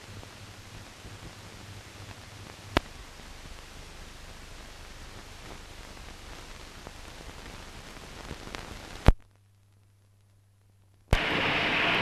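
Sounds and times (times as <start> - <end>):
faint low hum: 0.0 - 12.0
film soundtrack hiss and crackle: 0.0 - 12.0
steady noise: 0.0 - 12.0.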